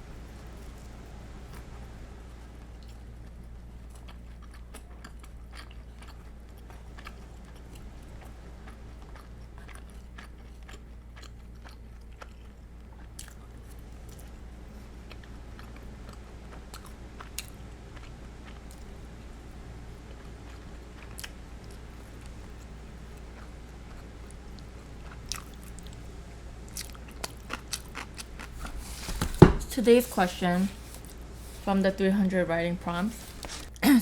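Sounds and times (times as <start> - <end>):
chewing fried chicken crunches: 0.1 - 29.1.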